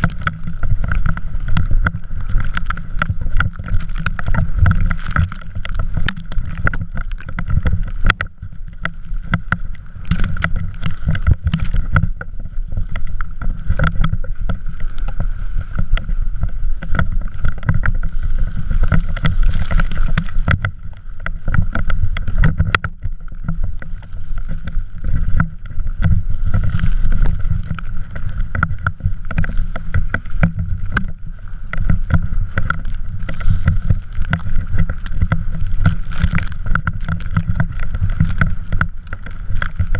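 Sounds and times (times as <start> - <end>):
trike rattling clicks and knocks: 0.0 - 13.1, 13.7 - 15.2, 16.0 - 39.9
trike rumbling over snow: 0.0 - 39.9.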